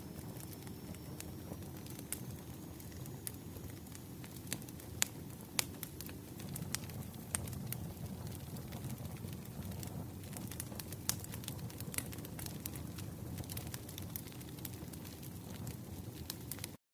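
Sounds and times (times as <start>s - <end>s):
campfire burning: 0.0s - 16.8s
wood crackling and popping: 0.0s - 16.8s.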